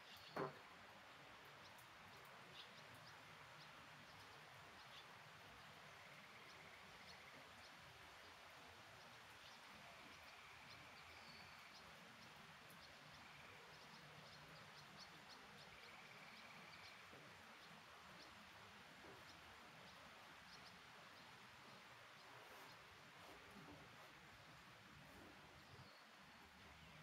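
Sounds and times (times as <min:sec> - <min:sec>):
steady rain hiss: 0:00.0 - 0:27.0
small drip ticks: 0:01.0 - 0:22.8.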